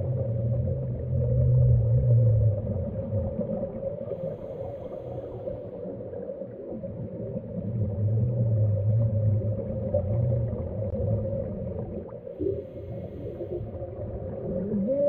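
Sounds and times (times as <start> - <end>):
underwater bubbling rumble: 0.0 - 15.0.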